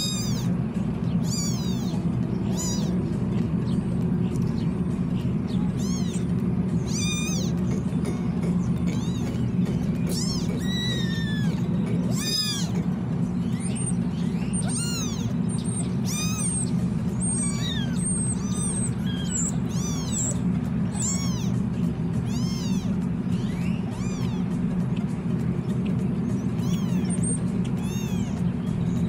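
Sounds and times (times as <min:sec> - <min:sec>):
kittens meowing: 0:00.0 - 0:29.0
steady low hum: 0:00.0 - 0:29.0.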